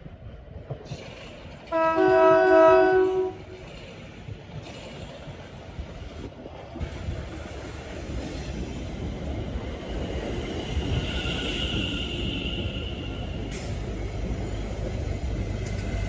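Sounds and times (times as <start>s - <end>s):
train rumbling along tracks: 0.0s - 16.0s.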